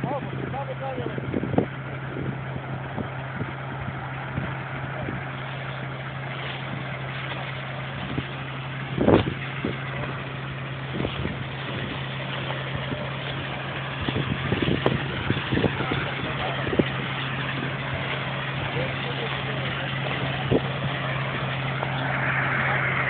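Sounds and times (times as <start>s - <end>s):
engine hum: 0.0s - 23.0s
grainy rushing noise: 0.0s - 23.0s.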